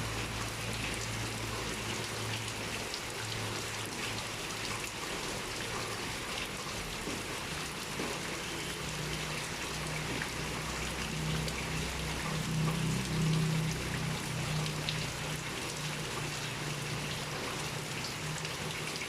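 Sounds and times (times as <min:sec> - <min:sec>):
pouring rain: 0:00.0 - 0:19.0
raindrops ticking on a surface: 0:00.0 - 0:19.0.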